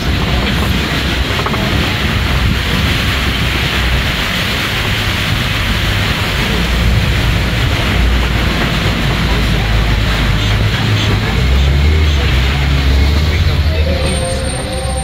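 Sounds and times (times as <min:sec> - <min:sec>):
truck engine rumble: 0:00.0 - 0:15.0
waterfall splashing into pool: 0:00.0 - 0:15.0.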